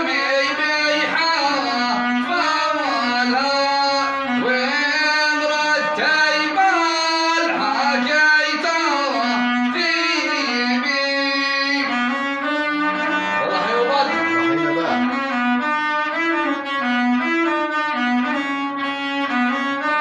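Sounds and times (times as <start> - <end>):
bowed spike fiddle melody: 0.0 - 20.0.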